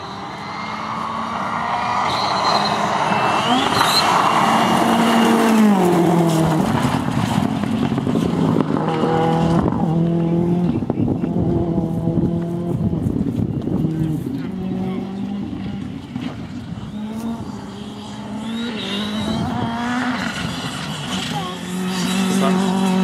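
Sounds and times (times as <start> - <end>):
rally car engine passing by: 0.0 - 23.0.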